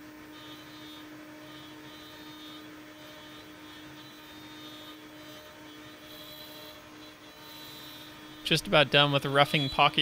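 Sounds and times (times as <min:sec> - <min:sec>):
spindle hum: 0:00.0 - 0:10.0.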